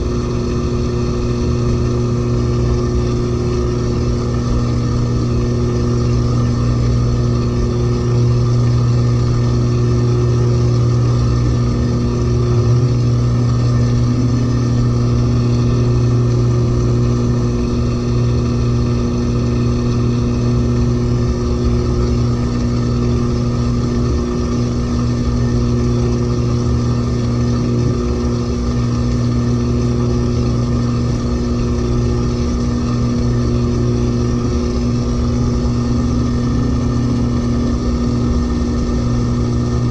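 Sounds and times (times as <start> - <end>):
steady low hum: 0.0 - 39.9
washing machine spinning: 0.0 - 39.9.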